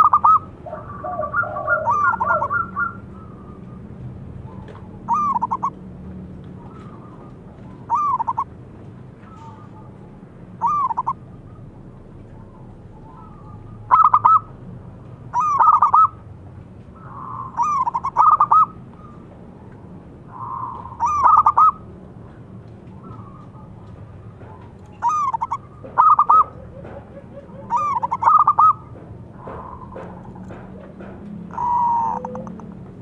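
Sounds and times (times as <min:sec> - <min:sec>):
dove cooing: 0:00.0 - 0:05.8, 0:06.6 - 0:08.5, 0:09.2 - 0:09.9, 0:10.6 - 0:11.7, 0:12.3 - 0:14.6, 0:15.3 - 0:16.2, 0:17.0 - 0:21.9, 0:22.9 - 0:33.0.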